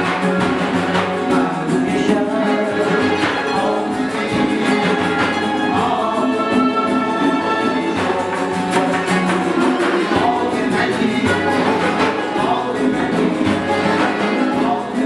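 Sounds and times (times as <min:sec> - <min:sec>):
hand drum rhythm: 0:00.0 - 0:15.0
traditional string ensemble: 0:00.0 - 0:15.0.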